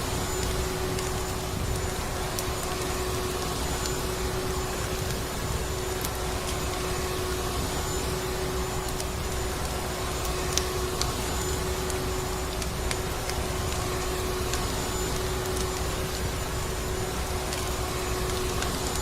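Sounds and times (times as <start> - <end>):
burning wood crackling: 0.0 - 19.0.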